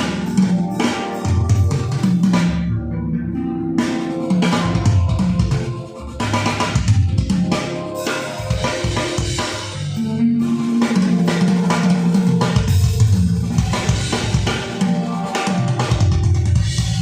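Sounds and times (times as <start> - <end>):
instrumental beat-driven music: 0.0 - 17.0.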